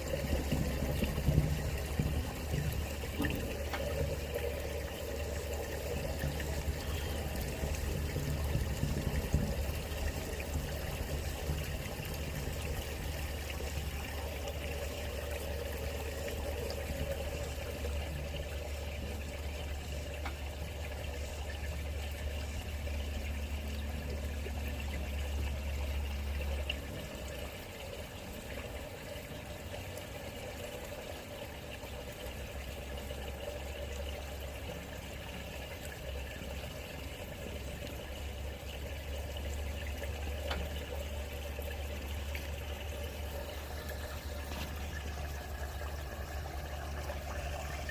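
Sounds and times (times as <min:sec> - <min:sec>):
water running: 0:00.0 - 0:47.9.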